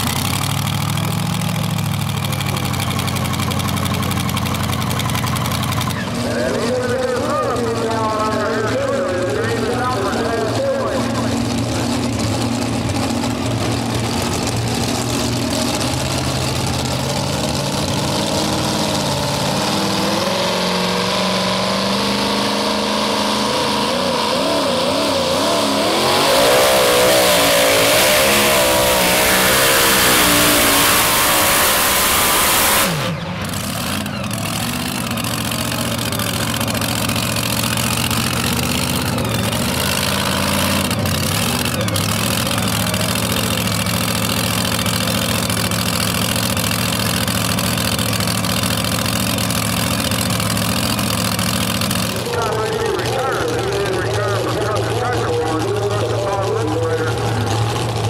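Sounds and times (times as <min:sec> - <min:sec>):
engine idling: 0:00.0 - 0:58.0
supercharged engine revving: 0:00.0 - 0:58.0.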